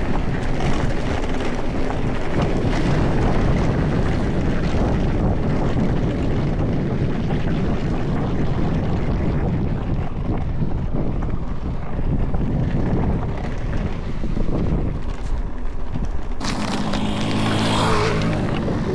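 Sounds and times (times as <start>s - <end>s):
rattle of bike: 0.0s - 18.9s
tyres rolling over dirt and rocks: 0.0s - 18.9s
wind buffeting microphone: 0.0s - 18.9s.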